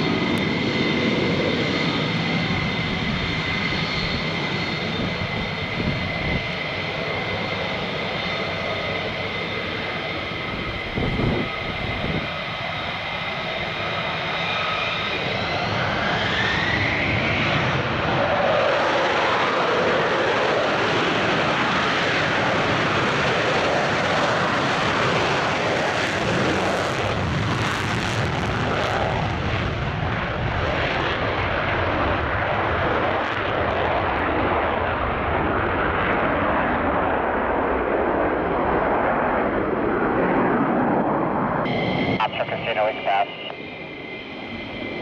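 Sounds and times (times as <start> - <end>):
fighter jet engines running: 0.0 - 45.0.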